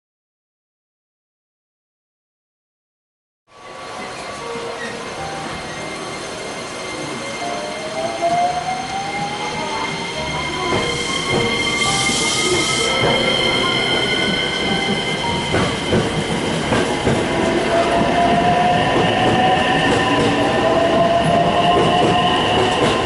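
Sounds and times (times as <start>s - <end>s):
train running: 3.5s - 23.0s.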